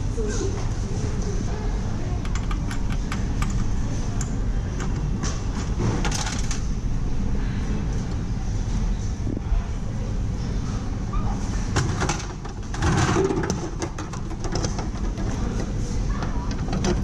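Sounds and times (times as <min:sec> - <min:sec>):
ambient rumble and hiss: 0:00.0 - 0:17.0.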